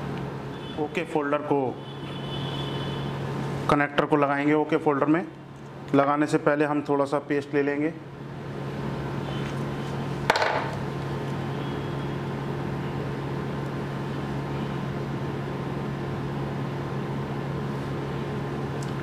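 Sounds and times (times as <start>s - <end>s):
electrical hum with buzz: 0.0s - 19.0s.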